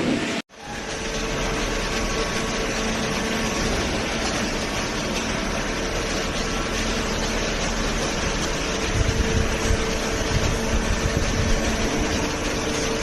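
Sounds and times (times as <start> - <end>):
baler motor and pump humming: 0.0 - 13.0.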